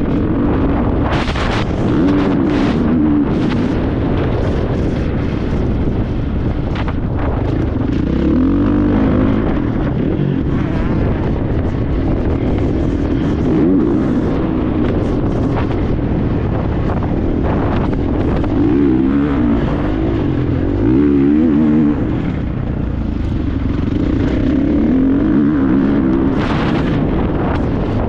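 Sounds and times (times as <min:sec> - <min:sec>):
dirt bike engine revving: 0:00.0 - 0:28.0
rushing noise: 0:00.0 - 0:28.0.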